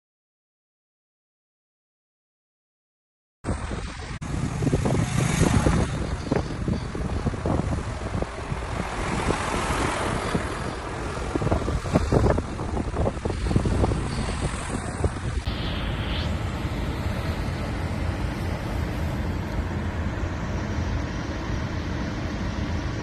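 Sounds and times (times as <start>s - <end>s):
vehicle engines and road noise: 3.5s - 23.0s
wind buffeting microphone: 3.5s - 23.0s.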